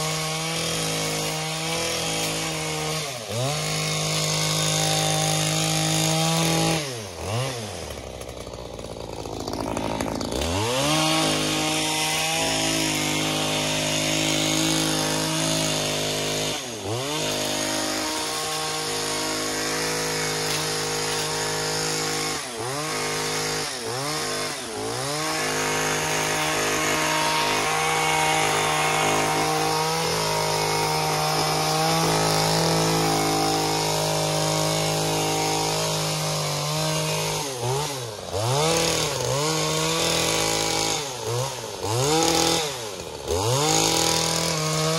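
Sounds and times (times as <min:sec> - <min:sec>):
garden cutting tool motor running: 0:00.0 - 0:44.9.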